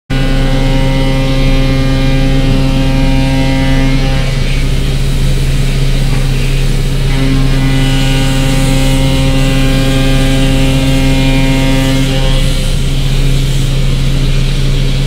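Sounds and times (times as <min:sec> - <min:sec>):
machining hum with steady tones: 0:00.1 - 0:15.0
coolant splashing: 0:00.3 - 0:15.0.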